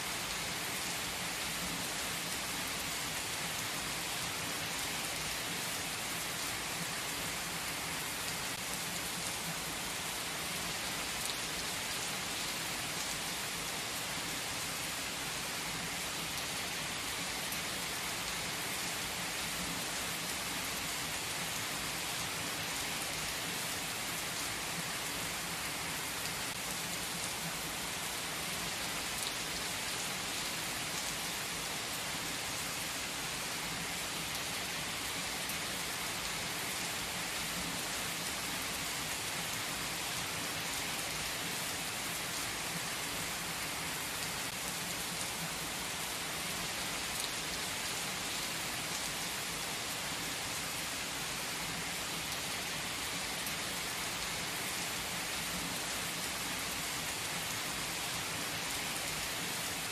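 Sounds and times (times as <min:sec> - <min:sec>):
heavy rain on asphalt: 0:00.0 - 0:59.9.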